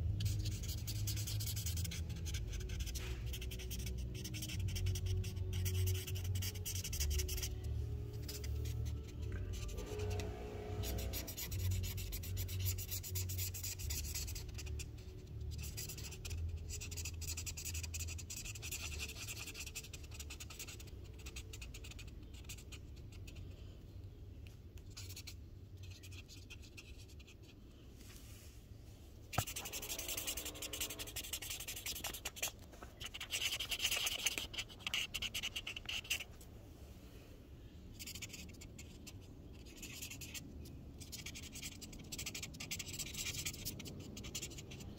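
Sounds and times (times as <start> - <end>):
marker scratching on paper: 0.0 - 23.6, 24.8 - 27.6, 29.3 - 36.4, 37.9 - 44.9.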